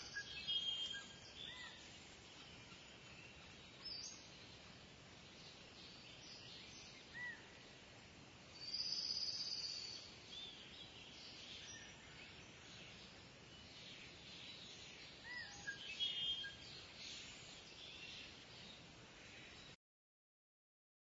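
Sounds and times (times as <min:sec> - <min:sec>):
birds chirping: 0:00.0 - 0:07.8, 0:08.5 - 0:19.8
background hiss: 0:00.0 - 0:19.8.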